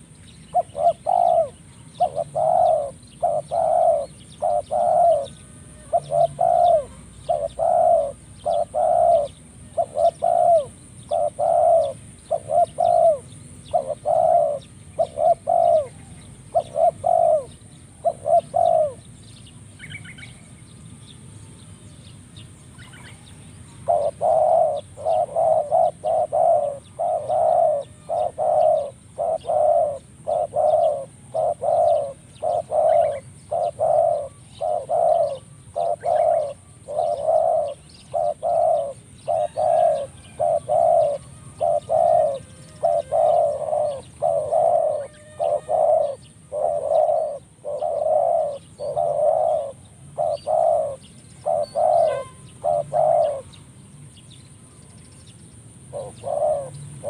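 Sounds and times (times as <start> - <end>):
dove cooing: 0.0 - 20.6, 22.7 - 53.7, 55.4 - 57.0.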